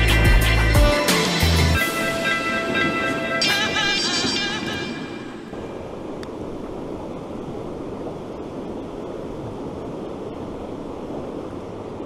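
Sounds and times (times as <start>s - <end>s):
wind: 0.8s - 12.0s
river current rushing: 1.0s - 12.0s.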